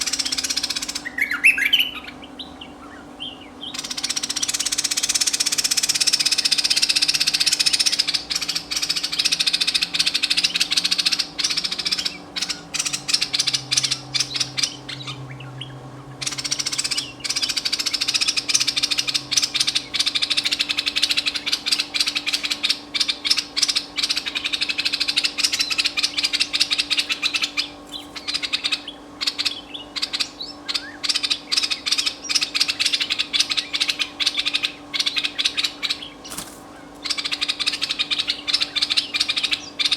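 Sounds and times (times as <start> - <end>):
bulbul chattering calls: 0.0 - 39.9
steady low hum: 0.0 - 39.9.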